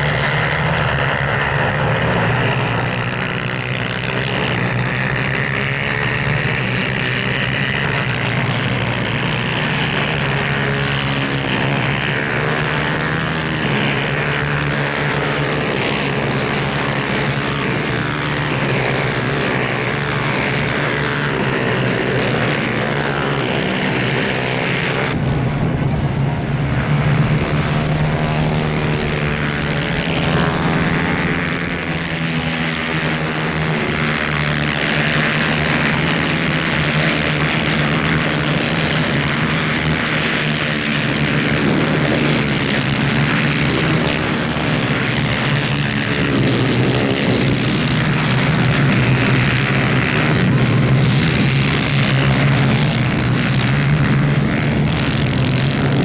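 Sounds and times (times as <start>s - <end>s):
racing kart engines whining: 0.0s - 56.0s.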